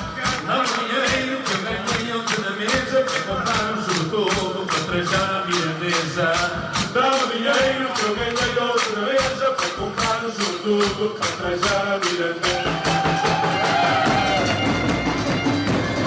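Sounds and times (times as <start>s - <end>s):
voices singing: 0.0s - 15.6s
shaken percussion: 0.0s - 16.0s.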